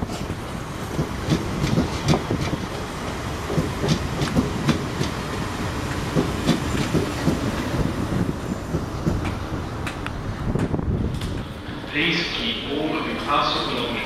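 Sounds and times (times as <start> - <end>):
train wheels clacking over rail joints: 0.0 - 11.5
train low rumble: 0.0 - 14.0.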